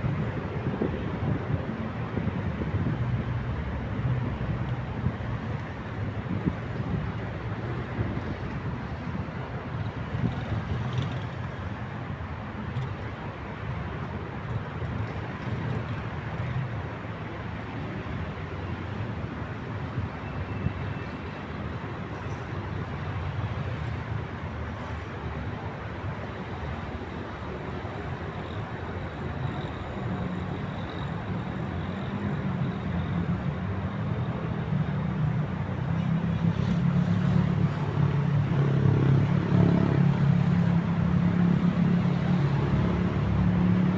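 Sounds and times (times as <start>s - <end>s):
city traffic hum: 0.0s - 43.9s.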